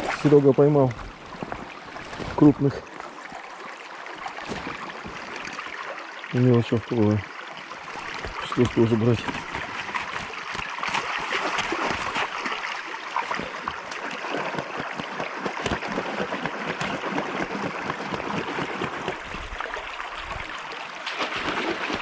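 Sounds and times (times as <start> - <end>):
river rushing over stones: 0.0 - 21.5.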